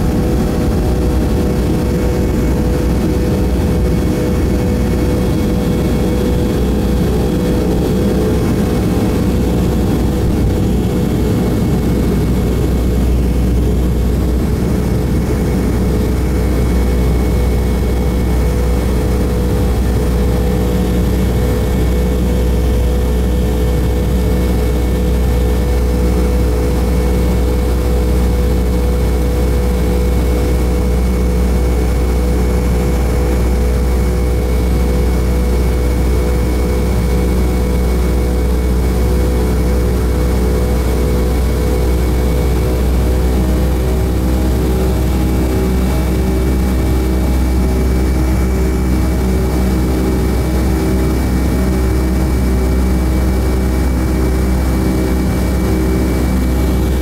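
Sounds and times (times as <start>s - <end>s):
jet engines at takeoff thrust: 0.0s - 57.0s
wheels rumbling on runway: 0.0s - 57.0s.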